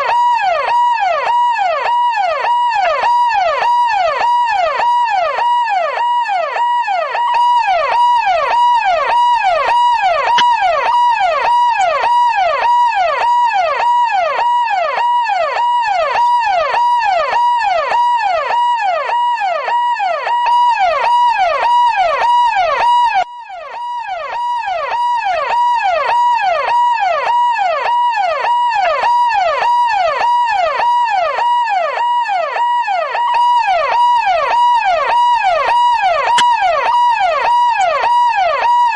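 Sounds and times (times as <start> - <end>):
police siren yelping: 0.0 - 38.9.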